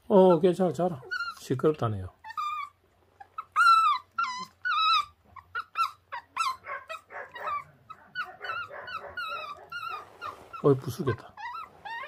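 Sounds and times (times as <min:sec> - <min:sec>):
puppy whining: 0:00.0 - 0:12.0
puppy grumbling: 0:00.2 - 0:01.6, 0:02.2 - 0:12.0.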